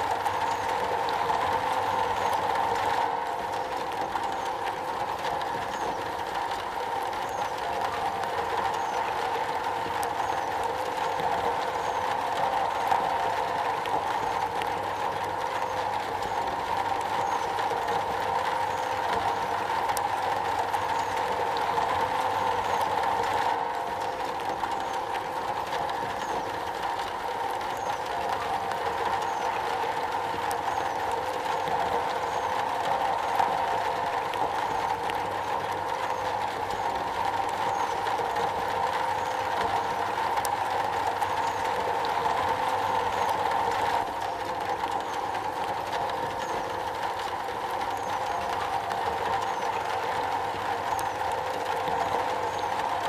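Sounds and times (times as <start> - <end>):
rain on a metal roof: 0.0 - 53.0.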